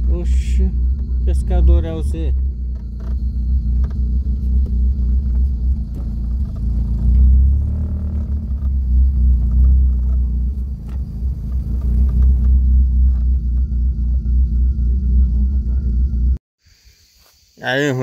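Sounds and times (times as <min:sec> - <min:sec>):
vehicle driving low rumble: 0:00.0 - 0:16.4.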